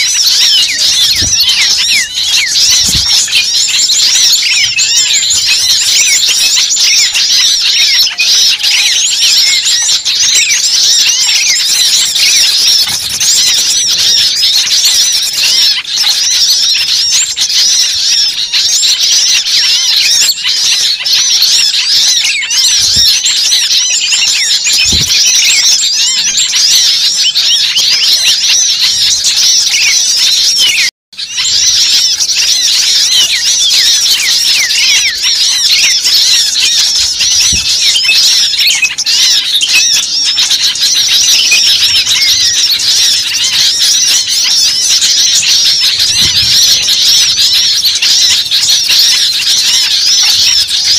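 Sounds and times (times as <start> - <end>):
small birds chirping in chorus: 0.0 - 50.9.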